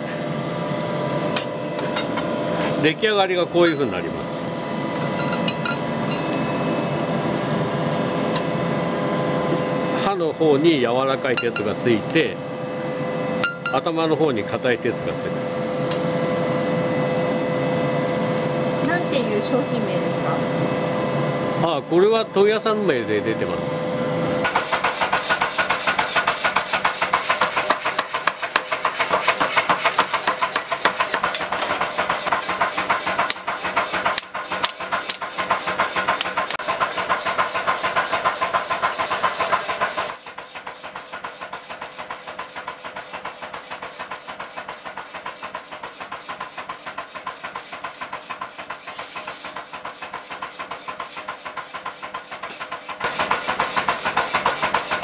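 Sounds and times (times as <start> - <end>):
fire burning: 0.0 - 13.5, 14.3 - 21.7, 22.4 - 51.0
electric air blower humming: 0.0 - 55.0.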